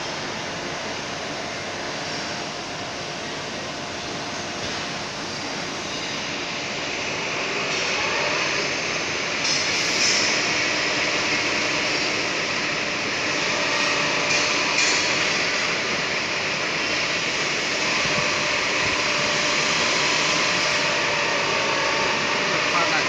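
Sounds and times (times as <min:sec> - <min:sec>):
lathe running with hiss and hum: 0:00.0 - 0:23.0.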